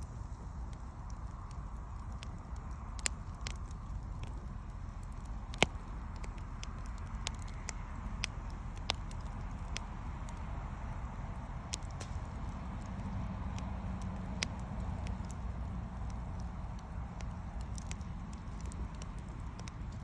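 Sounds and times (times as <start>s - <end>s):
bonfire crackling and popping: 0.0s - 20.0s
low fire rumble: 0.0s - 20.0s.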